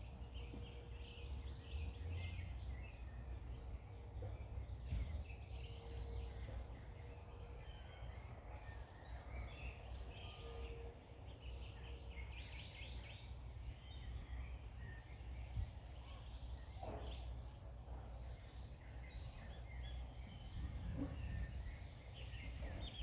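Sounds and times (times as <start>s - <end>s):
low steady background rumble: 0.0s - 23.0s
songbirds chirping and singing: 0.0s - 23.0s.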